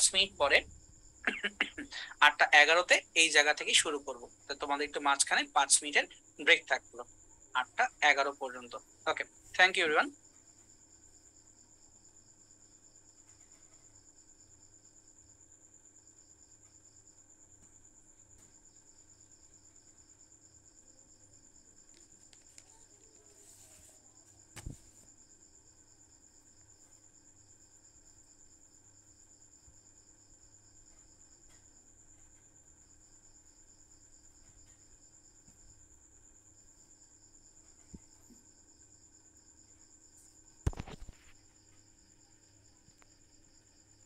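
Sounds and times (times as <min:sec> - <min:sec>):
crickets trilling: 0:00.0 - 0:44.0
lower insect trill: 0:00.1 - 0:44.0.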